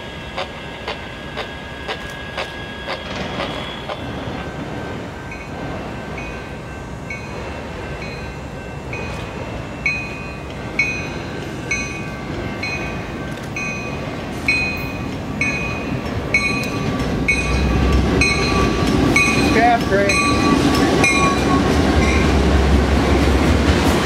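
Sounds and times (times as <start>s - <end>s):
distant train rumble: 0.0s - 24.0s.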